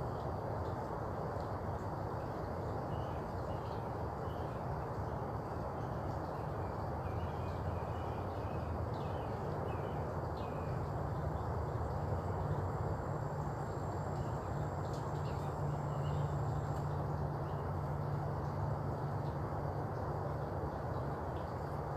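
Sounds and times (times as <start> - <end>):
background hum: 0.0 - 21.9.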